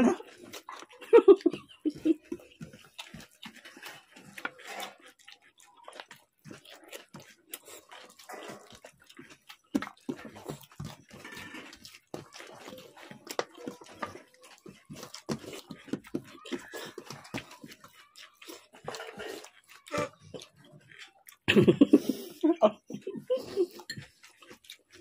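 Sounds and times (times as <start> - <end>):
wet squelching and slurping: 0.0 - 22.4, 23.8 - 25.0
eating clicks and smacks: 0.2 - 25.0.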